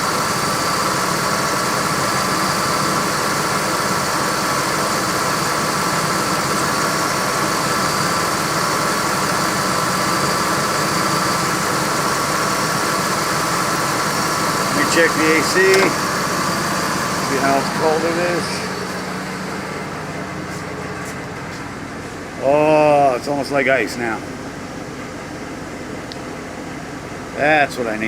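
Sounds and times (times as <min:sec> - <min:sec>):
air conditioning running: 0:00.0 - 0:28.0
car engine idling: 0:00.0 - 0:28.0.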